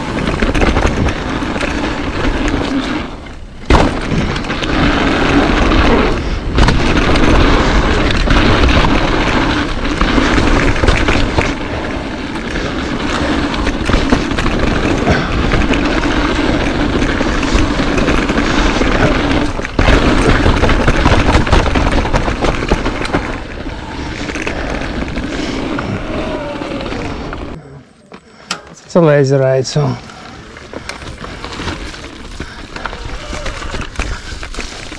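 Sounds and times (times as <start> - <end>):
bike knocking and rattling: 0.0 - 29.0, 29.7 - 34.9
tyres rolling on dirt trail: 0.0 - 34.9.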